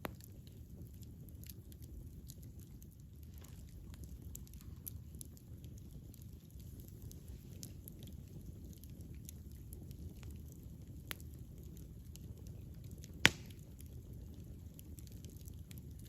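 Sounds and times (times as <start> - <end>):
flames rumbling: 0.0 - 16.0
wood crackling and popping: 0.0 - 16.0.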